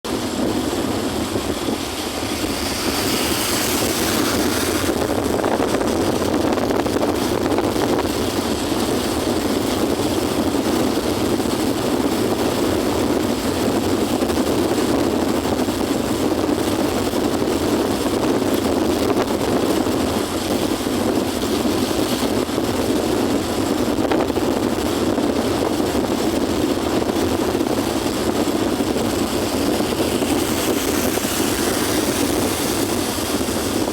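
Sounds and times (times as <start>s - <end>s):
vehicle engine and road rumble: 0.0s - 33.9s.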